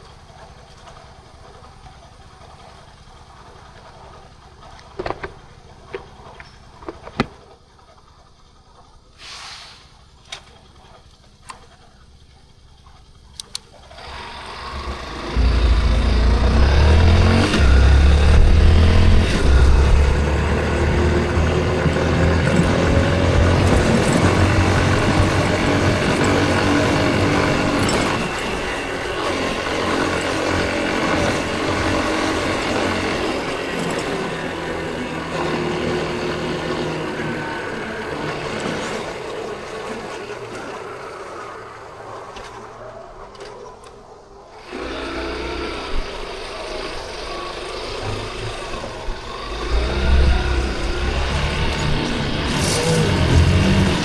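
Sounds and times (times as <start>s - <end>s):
motorcycle engine: 0.0s - 9.2s, 9.9s - 54.0s.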